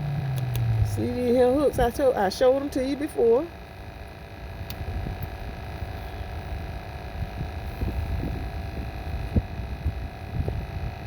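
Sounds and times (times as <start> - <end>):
faint steady hum: 0.0 - 11.0
low rumble on microphone: 0.0 - 11.0.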